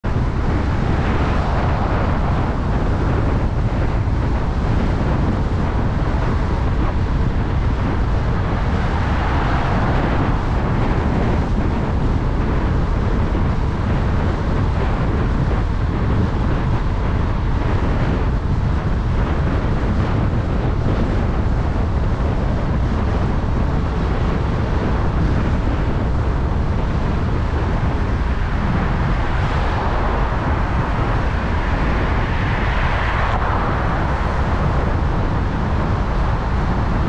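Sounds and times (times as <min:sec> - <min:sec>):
tyre and road noise: 0:00.0 - 0:37.0
wind buffeting microphone: 0:00.0 - 0:37.0.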